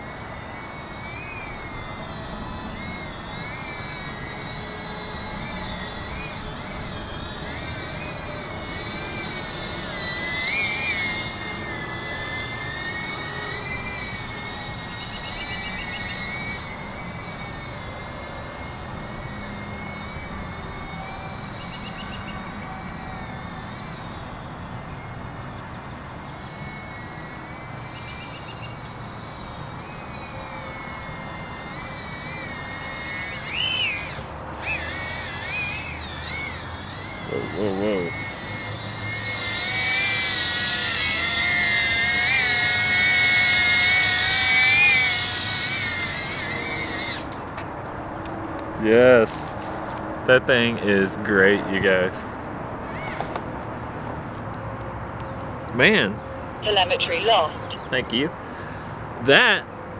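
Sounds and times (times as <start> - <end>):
drone motors whining: 0.0 - 59.9.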